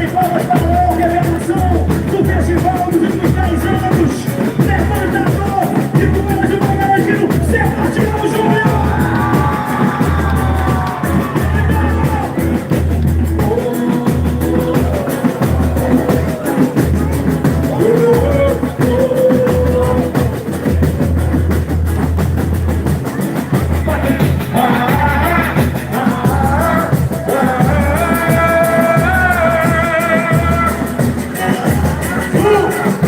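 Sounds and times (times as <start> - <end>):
person singing: 0.0 - 21.5, 23.1 - 33.0
band playing with heavy drums: 0.0 - 33.0.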